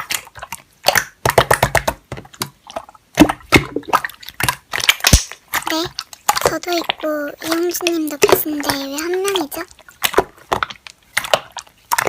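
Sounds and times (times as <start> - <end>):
slime squishing and crackling: 0.0 - 12.0.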